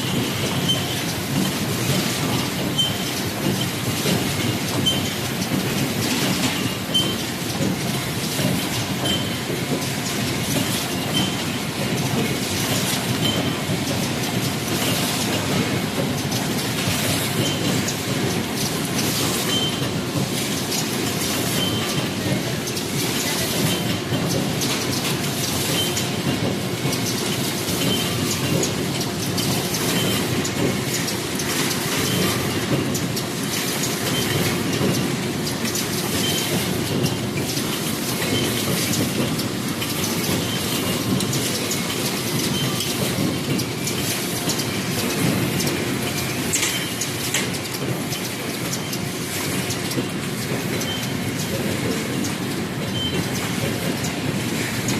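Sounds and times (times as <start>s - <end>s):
machine presses clattering: 0.0s - 54.9s.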